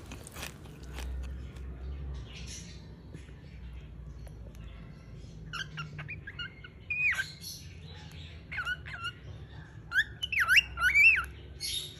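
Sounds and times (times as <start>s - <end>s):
bird chirping: 0.0s - 11.9s.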